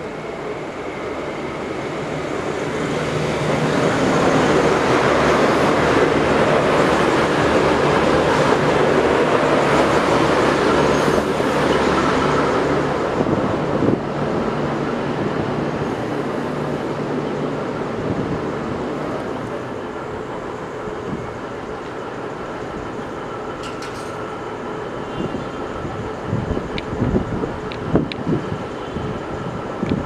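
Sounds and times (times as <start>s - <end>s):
diesel train engine hum: 0.0s - 30.0s
train wheels rushing on rails: 0.0s - 30.0s.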